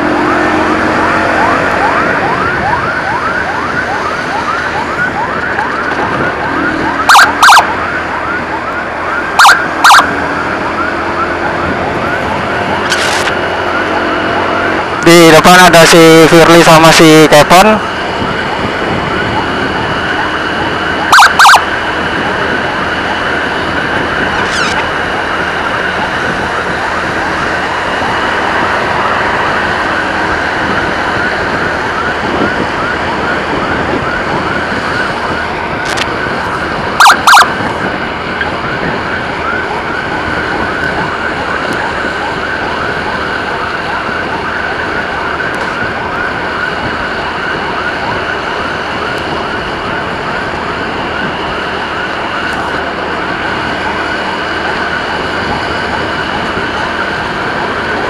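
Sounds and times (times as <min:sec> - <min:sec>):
ambulance siren yelping: 0:00.0 - 0:58.0.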